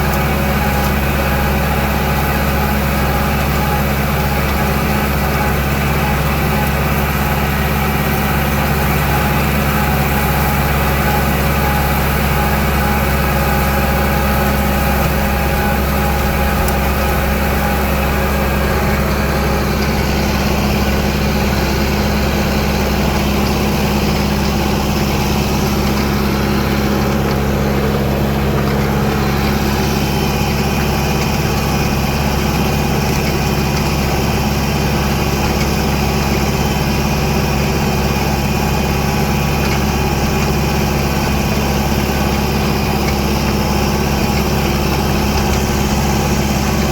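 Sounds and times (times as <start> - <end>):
tractor engine droning: 0.0 - 46.9.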